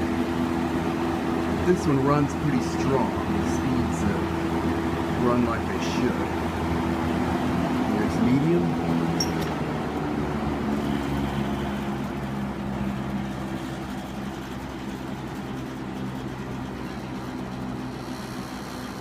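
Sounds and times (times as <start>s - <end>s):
box fan running: 0.0s - 19.0s.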